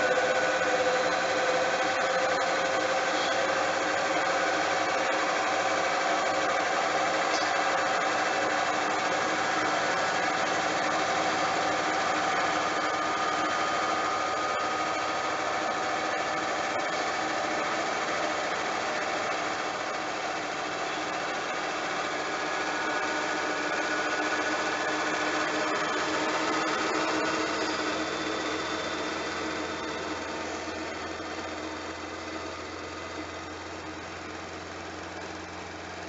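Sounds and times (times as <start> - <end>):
motor whine: 0.0 - 36.0.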